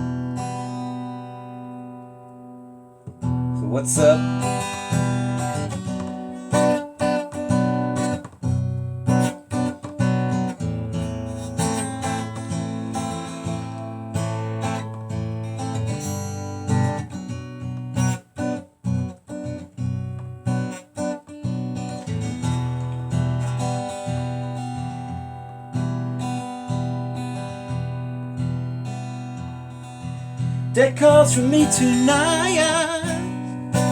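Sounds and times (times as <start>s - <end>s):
acoustic guitar strumming chords: 0.0s - 33.9s.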